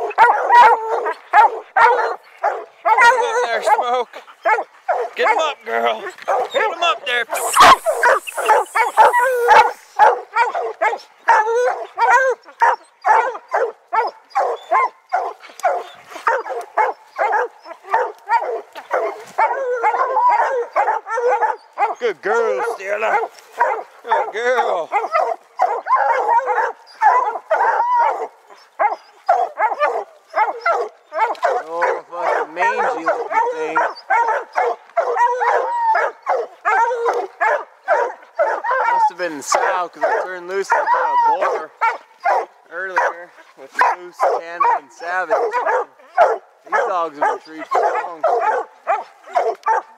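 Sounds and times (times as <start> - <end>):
hounds barking: 0.0 - 49.9.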